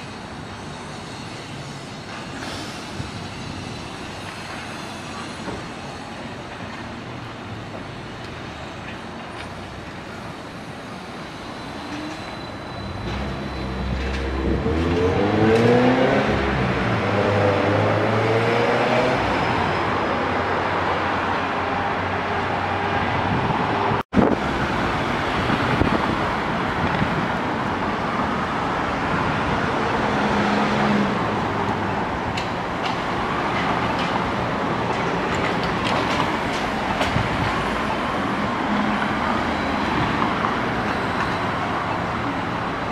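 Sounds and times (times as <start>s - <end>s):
city street traffic: 0.0s - 42.9s.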